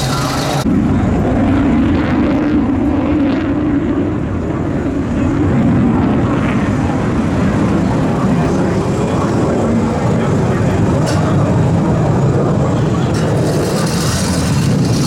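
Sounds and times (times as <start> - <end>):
helicopter rotor and turbine: 0.0 - 15.0.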